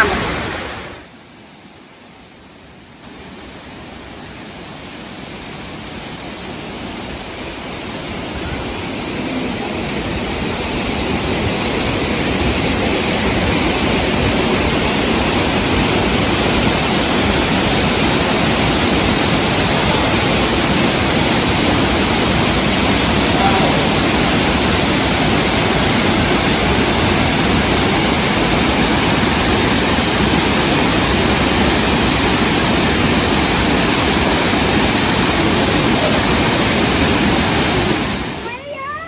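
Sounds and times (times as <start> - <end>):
waterfall rushing: 0.0 - 1.3, 3.0 - 39.0.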